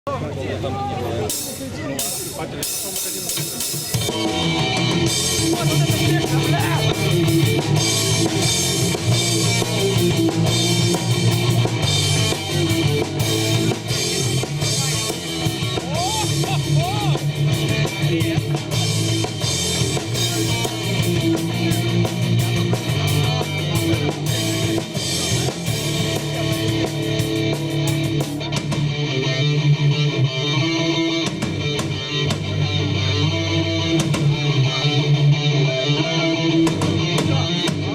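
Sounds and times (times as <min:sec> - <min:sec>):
bass guitar: 0:00.1 - 0:37.9
electric guitars: 0:00.1 - 0:37.9
drum kit: 0:01.2 - 0:30.1, 0:31.0 - 0:35.6, 0:36.2 - 0:37.9.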